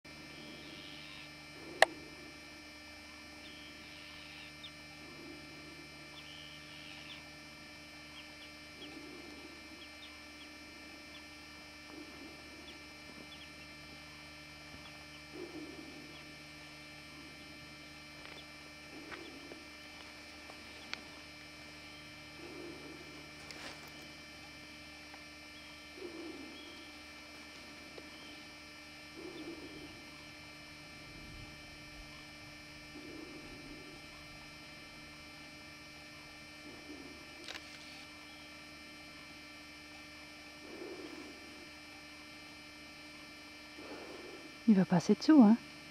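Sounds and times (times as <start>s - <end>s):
steady electrical hum: 0.0s - 45.9s.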